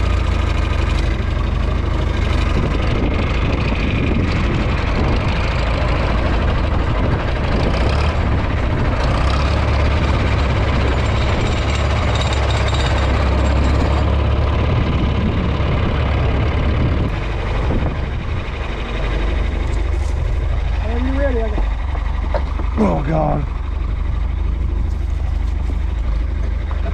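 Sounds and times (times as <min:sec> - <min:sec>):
manure spreader clatter: 0:00.0 - 0:26.9
tractor engine running: 0:00.0 - 0:26.9.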